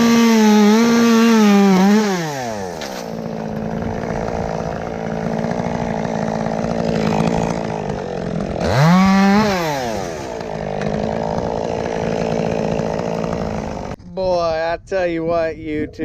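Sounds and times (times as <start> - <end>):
chainsaw running at high revs: 0.0 - 14.0
second chainsaw revving: 0.0 - 14.0.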